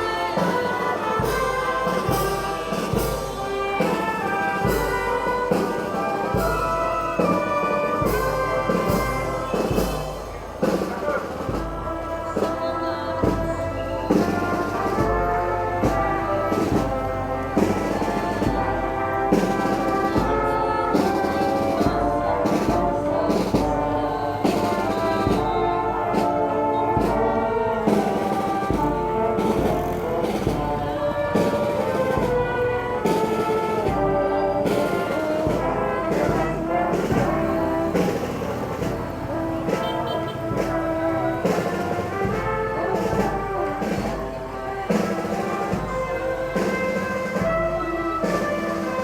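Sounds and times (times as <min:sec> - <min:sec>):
brass band playing: 0:00.0 - 0:49.0.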